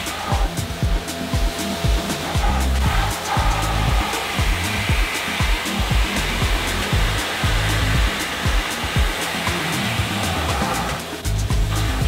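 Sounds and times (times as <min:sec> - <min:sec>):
background music with beat: 0:00.0 - 0:12.0
pressure washer spraying: 0:00.0 - 0:12.0.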